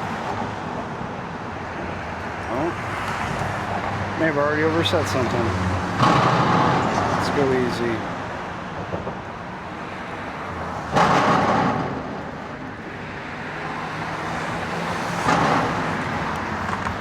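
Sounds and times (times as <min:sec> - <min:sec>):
traffic hum: 0:00.0 - 0:17.0
vehicles passing: 0:00.0 - 0:17.0.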